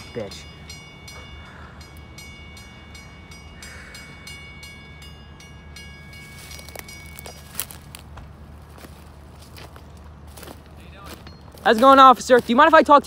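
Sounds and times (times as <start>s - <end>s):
railroad crossing bell ringing: 0.0s - 9.0s, 10.8s - 13.0s.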